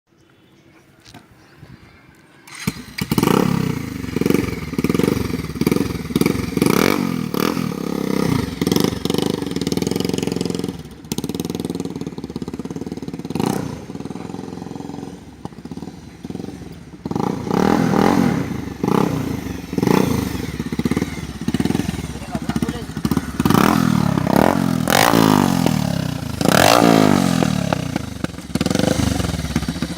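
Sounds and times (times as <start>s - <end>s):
motorcycle engine revving: 2.4s - 29.9s.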